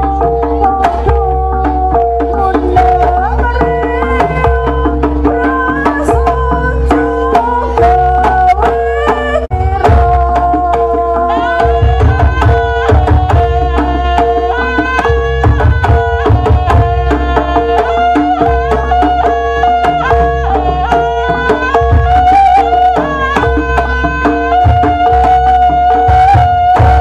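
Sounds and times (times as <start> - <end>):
hand drums: 0.0 - 27.0
reed shawm melody: 0.0 - 27.0.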